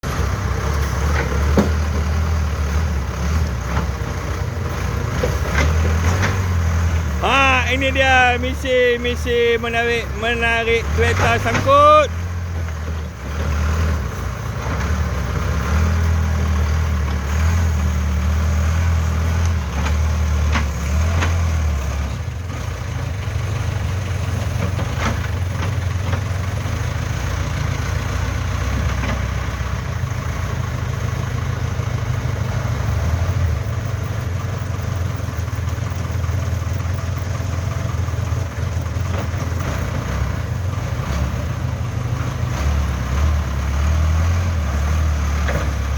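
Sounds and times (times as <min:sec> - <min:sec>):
diesel engine rumbling: 0:00.0 - 0:45.9.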